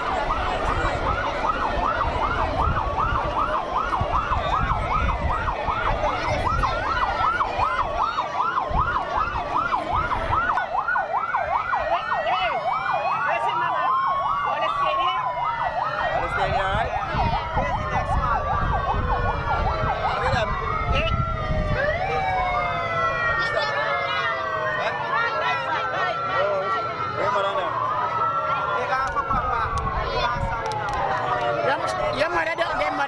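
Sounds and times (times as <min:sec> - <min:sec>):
siren wail: 0:00.0 - 0:33.0
siren yelp: 0:00.0 - 0:33.0.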